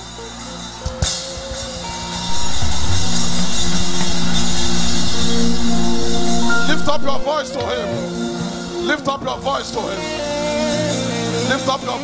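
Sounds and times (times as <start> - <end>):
drum kit and cymbals: 0.0 - 12.0
praise band playing: 0.0 - 12.0.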